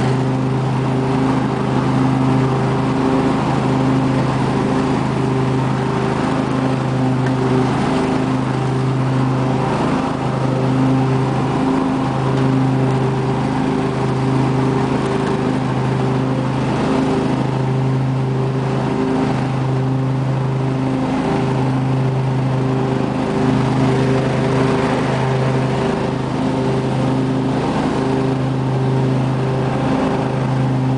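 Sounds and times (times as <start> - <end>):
lawn tractor engine running: 0.0 - 30.9.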